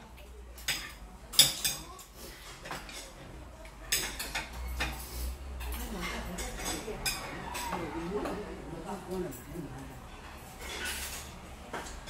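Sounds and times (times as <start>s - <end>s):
utensils clinking on metal bowls: 0.1s - 12.0s.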